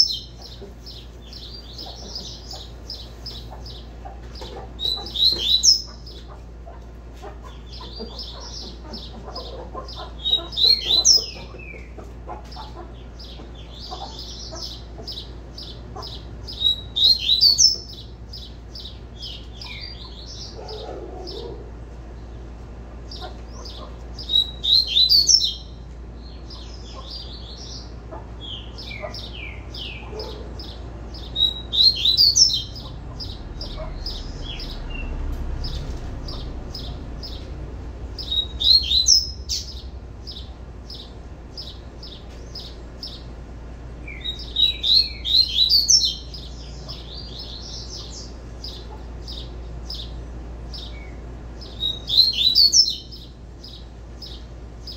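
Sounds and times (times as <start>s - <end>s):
bird chirping song: 0.0s - 54.9s.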